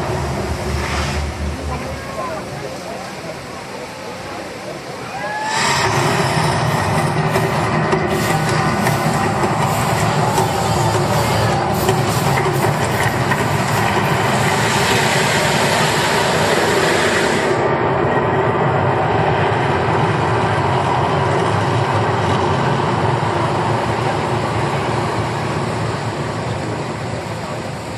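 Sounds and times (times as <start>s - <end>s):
loud steady rumbling: 0.0s - 27.9s.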